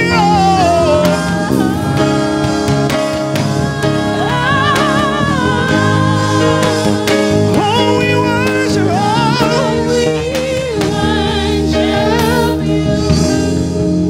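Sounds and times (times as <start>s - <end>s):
drum strikes: 0.0s - 12.4s
band playing chords: 0.0s - 14.0s.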